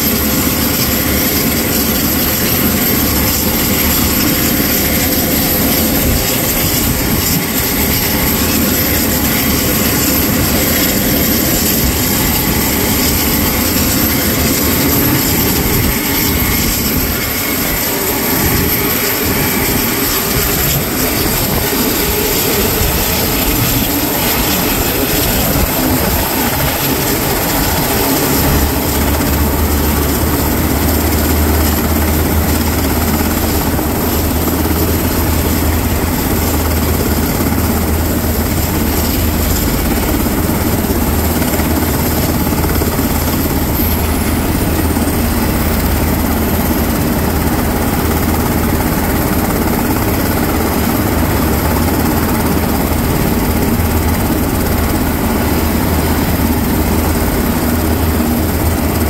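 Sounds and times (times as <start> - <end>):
helicopter engine whine and rumble: 0.0 - 59.0.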